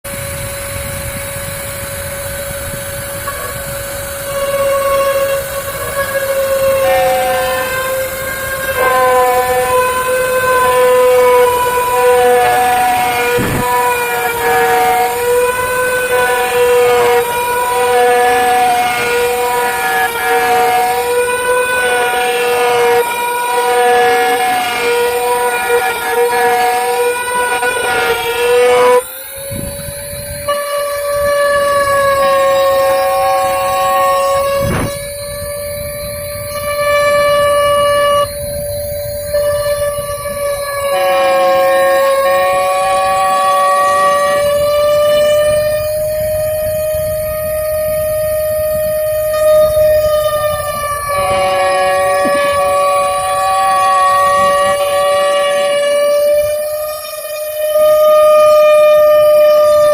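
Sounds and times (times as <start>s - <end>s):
router spindle whine: 0.0s - 59.9s
cutting noise: 0.1s - 59.9s.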